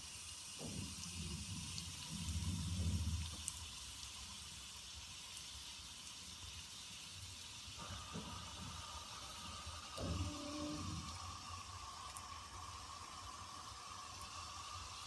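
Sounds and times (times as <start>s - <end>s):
hot oil sizzling in pan: 0.0s - 15.0s.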